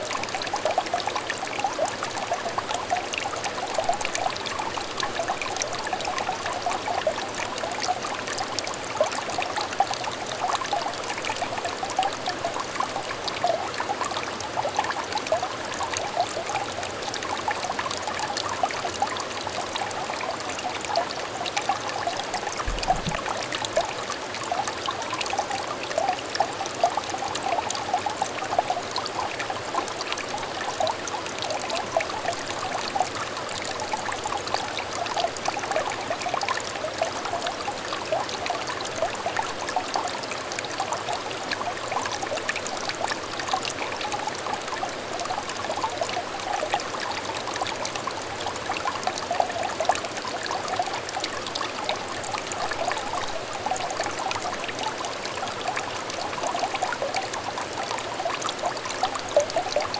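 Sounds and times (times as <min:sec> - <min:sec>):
water trickling and burbling: 0:00.0 - 0:59.9.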